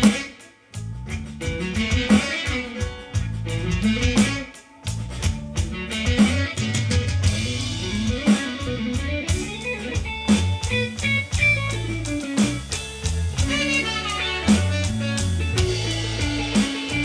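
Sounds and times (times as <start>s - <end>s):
drum kit beat: 0.0s - 17.0s
bass line: 0.8s - 17.0s.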